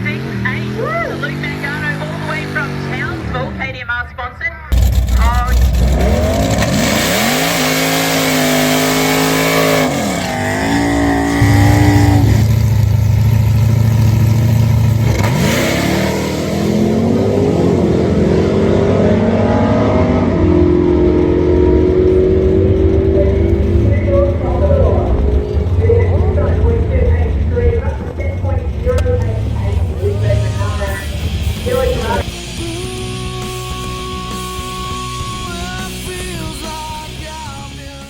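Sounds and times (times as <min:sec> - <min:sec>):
car engines revving: 0:00.0 - 0:03.9, 0:04.7 - 0:38.0.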